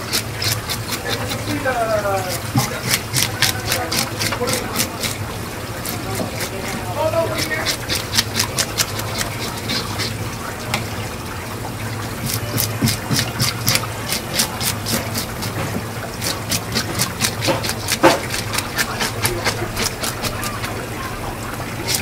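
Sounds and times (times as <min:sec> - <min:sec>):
fish scaler rasping on scales: 0:00.0 - 0:22.0
running tap water: 0:00.0 - 0:22.0.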